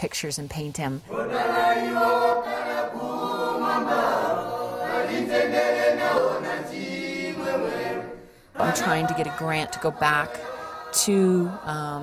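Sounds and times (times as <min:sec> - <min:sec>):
choir singing in harmony: 0:01.1 - 0:12.0.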